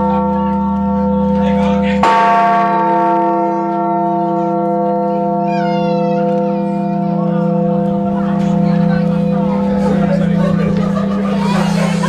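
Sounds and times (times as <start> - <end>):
large church bell ringing: 0.0 - 12.0.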